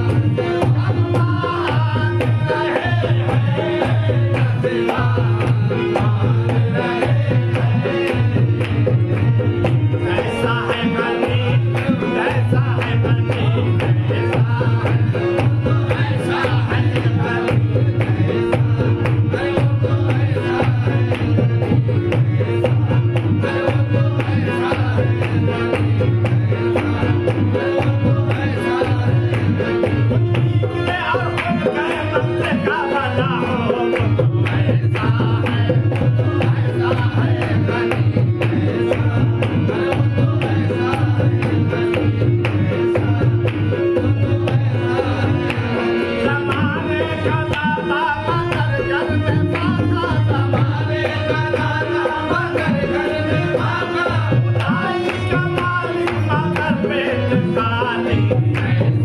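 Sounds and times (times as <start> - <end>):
hand drum beat: 0.0 - 59.0.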